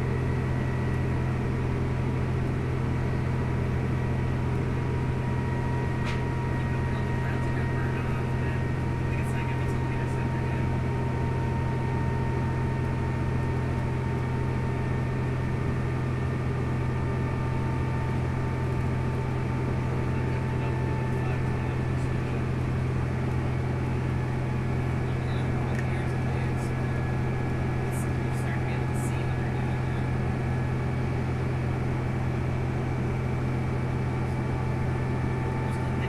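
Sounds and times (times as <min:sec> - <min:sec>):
bus diesel engine drone: 0:00.0 - 0:36.0.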